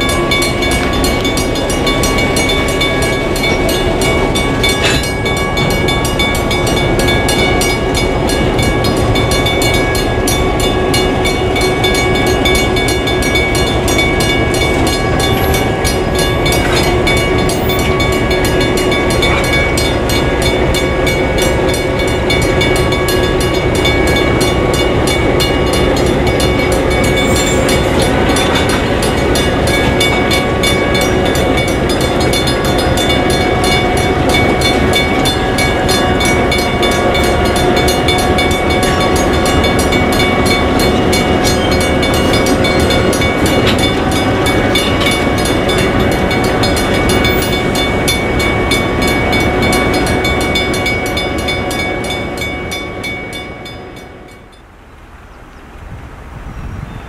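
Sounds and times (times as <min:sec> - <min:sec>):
crossing warning bell ringing: 0:00.0 - 0:54.8
diesel locomotives passing: 0:00.0 - 0:57.0.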